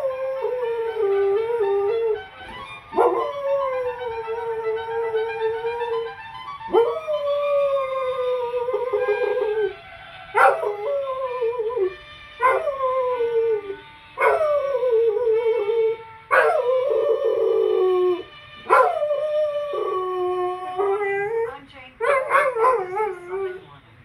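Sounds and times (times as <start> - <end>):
dog howling: 0.0 - 6.1, 6.7 - 23.6.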